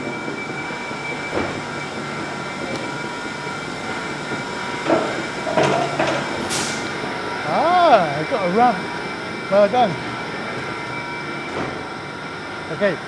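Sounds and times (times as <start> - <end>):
electric train equipment hum: 0.0 - 13.0.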